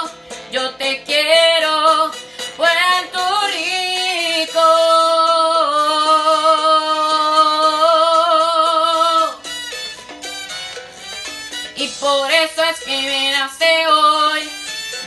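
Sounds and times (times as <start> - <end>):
boy singing with vibrato: 0.0 - 9.4, 11.8 - 14.7
instrumental accompaniment: 0.0 - 15.0.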